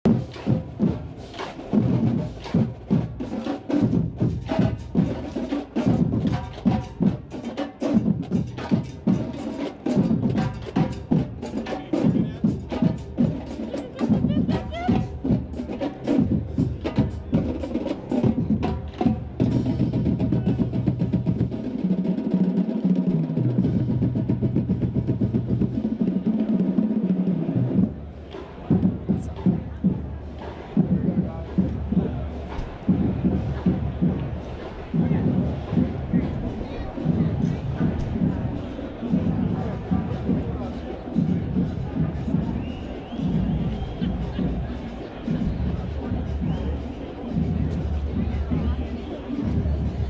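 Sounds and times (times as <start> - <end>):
drumline playing snare and bass: 0.0 - 50.0.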